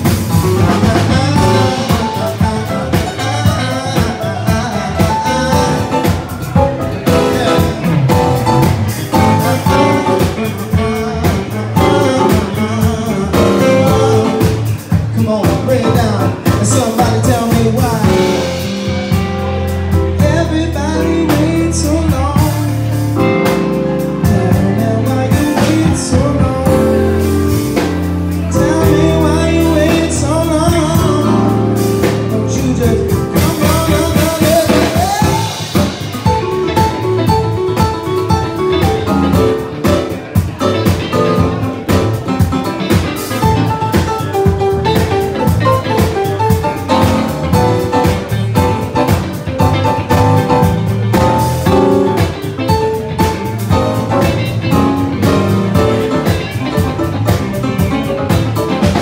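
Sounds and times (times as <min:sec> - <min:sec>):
live band playing: 0:00.0 - 0:59.0
person singing: 0:00.0 - 0:59.0.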